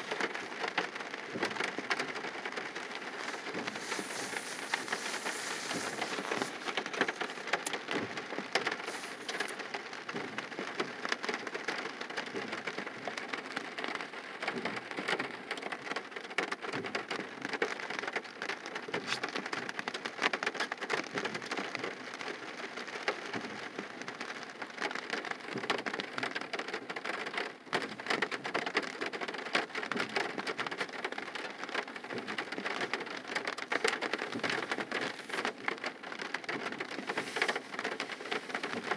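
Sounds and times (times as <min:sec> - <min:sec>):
rain on car roof: 0:00.0 - 0:38.9.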